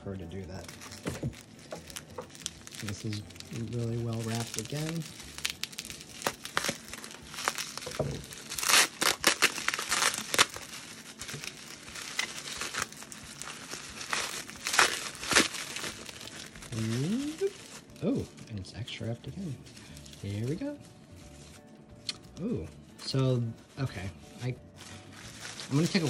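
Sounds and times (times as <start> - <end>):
plastic wrapping crinkling: 0.0 - 26.0.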